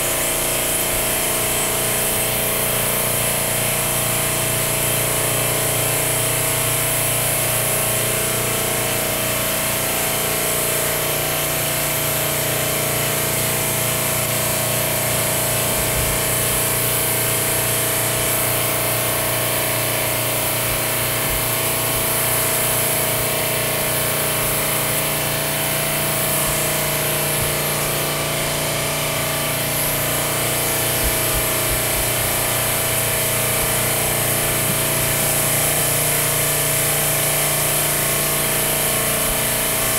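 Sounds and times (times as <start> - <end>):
airbrush spraying air: 0.0 - 3.6, 11.1 - 39.9
air compressor humming: 0.0 - 39.9.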